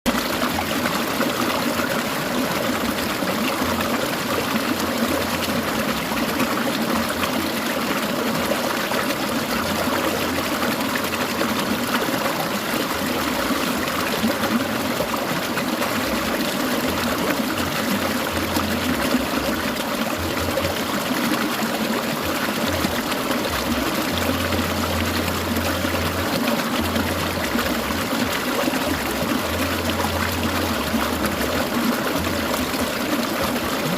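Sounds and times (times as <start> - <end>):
stream babbling over rocks: 0.1 - 33.9.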